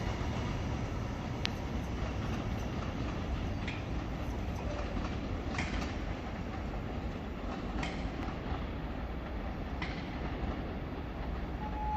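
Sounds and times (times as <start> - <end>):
train rumbling: 0.0 - 11.9
wheel clacks over rail joints: 1.3 - 11.9.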